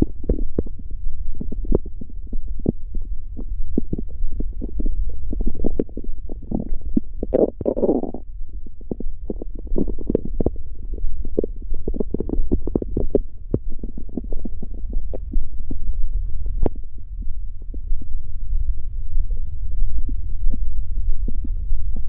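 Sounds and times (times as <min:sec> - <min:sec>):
stomach growling and gurgling: 0:00.0 - 0:18.2, 0:19.3 - 0:22.0
steady low hum: 0:00.0 - 0:22.0.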